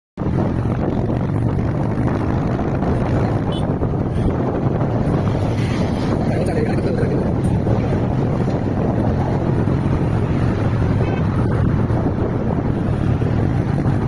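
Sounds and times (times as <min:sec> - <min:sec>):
wind buffeting microphone: 0:00.2 - 0:14.0.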